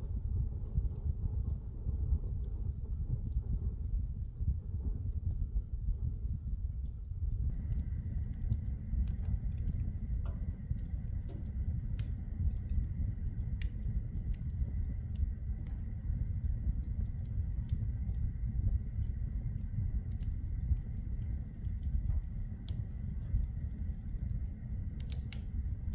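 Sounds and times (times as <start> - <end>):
flames rumbling: 0.0 - 25.9
logs crackling and popping: 0.0 - 25.9.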